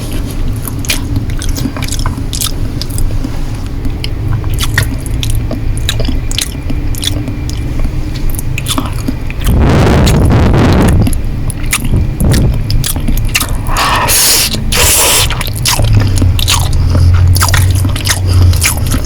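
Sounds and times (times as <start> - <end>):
noodles chewing with mouth clicks: 0.0 - 10.2, 10.8 - 19.0
steady low rumble: 0.0 - 19.0.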